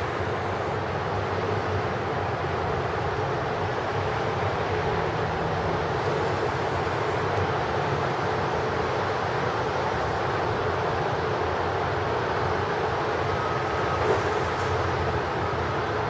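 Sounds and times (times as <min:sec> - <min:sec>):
steady rumble and hiss: 0:00.0 - 0:16.0.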